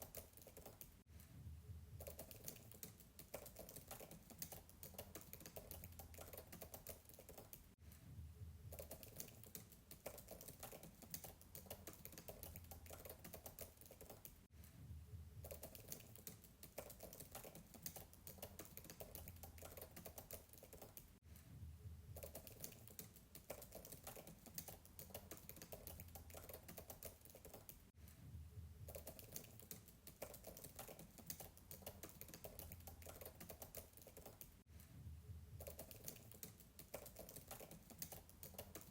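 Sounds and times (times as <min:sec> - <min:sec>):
fast typing on a keyboard: 0:00.0 - 0:01.0, 0:02.0 - 0:07.8, 0:08.7 - 0:14.5, 0:15.4 - 0:21.2, 0:22.2 - 0:27.9, 0:28.9 - 0:34.6, 0:35.6 - 0:38.9.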